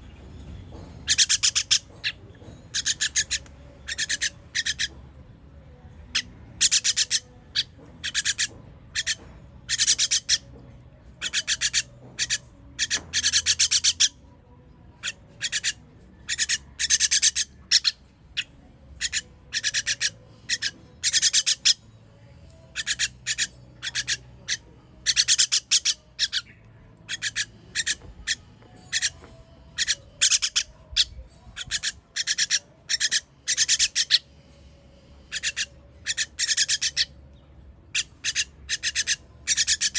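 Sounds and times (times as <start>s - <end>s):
nestling birds raspy begging calls: 1.0s - 5.0s, 6.1s - 10.5s, 11.2s - 14.2s, 15.0s - 21.8s, 22.5s - 37.2s, 37.8s - 39.9s.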